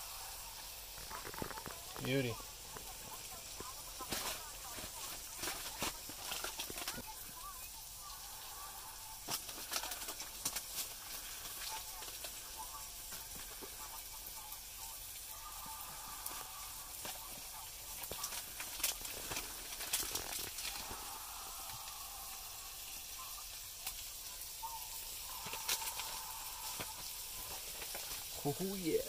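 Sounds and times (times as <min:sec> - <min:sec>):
fish frying in butter: 0:00.0 - 0:29.0.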